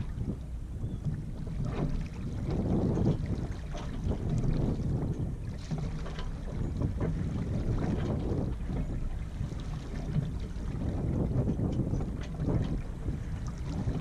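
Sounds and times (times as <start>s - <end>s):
water along boat hull: 0.0s - 14.0s
wind rumbling on microphone: 0.0s - 14.0s.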